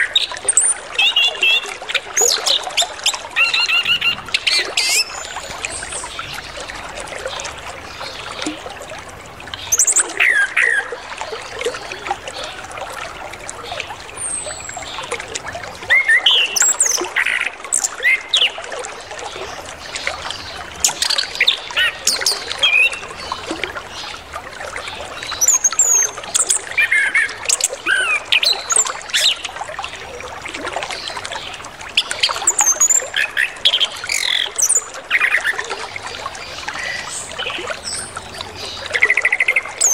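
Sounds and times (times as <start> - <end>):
trickle of flowing water: 0.0 - 39.9.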